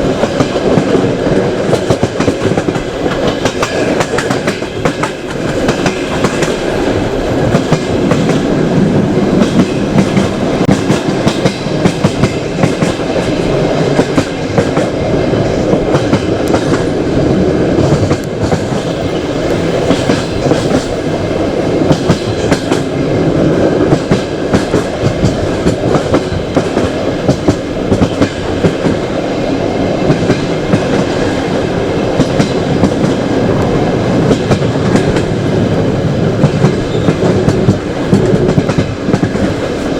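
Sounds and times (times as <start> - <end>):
train carriage rumble: 0.0 - 39.9
train wheels clattering: 0.0 - 39.9.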